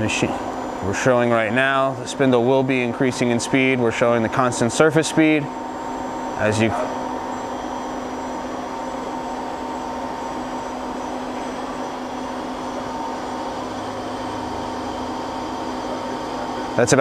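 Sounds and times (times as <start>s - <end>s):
lathe machine hum: 0.0s - 17.0s.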